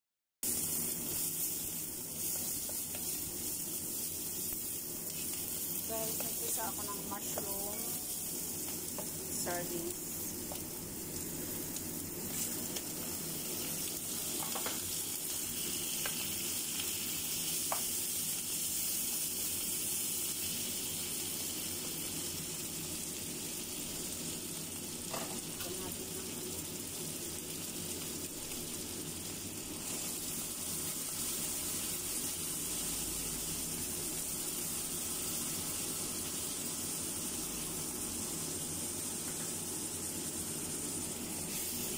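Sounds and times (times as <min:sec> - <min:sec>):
food sizzling in hot oil: 0:00.4 - 0:41.9.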